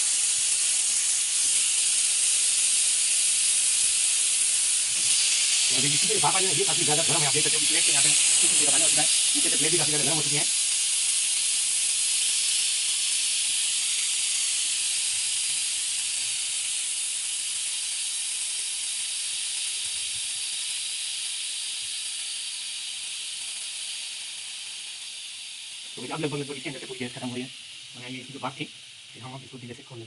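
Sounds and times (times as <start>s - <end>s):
pressure cooker steam hissing: 0.0s - 30.0s.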